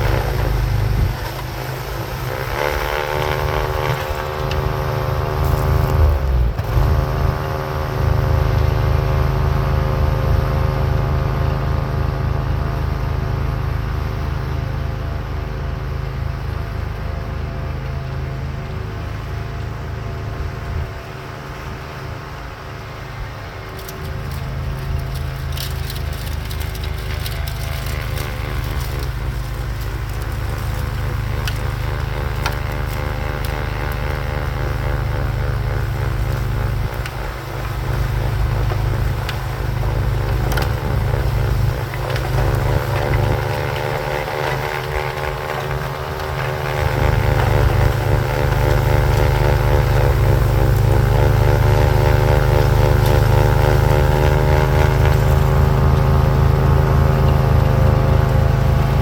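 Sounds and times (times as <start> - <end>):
lawn tractor engine running under load: 0.0 - 59.0.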